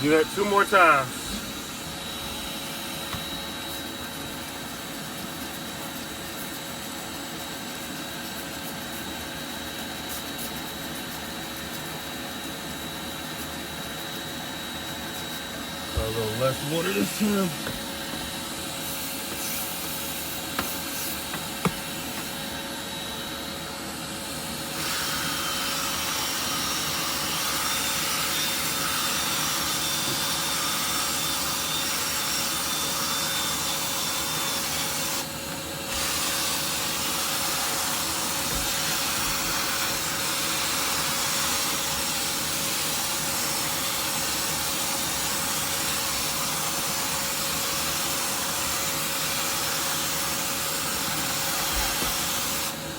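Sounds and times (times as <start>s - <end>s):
wet vacuum running: 0.0s - 52.9s.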